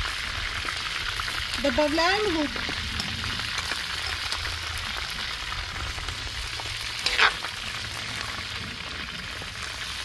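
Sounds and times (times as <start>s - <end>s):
chicken and onion sizzling in oil: 0.0s - 10.0s.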